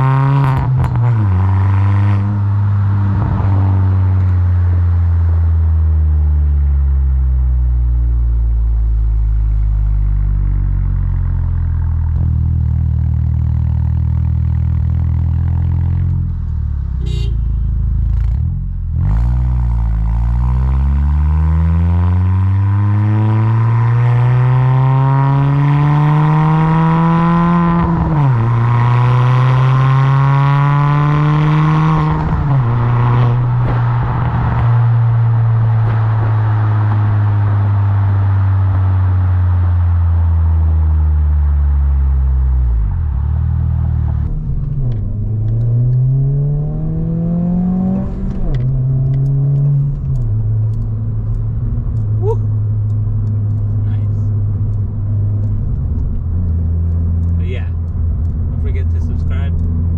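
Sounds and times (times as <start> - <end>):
car exhaust accelerating through gears: 0.0 - 59.9.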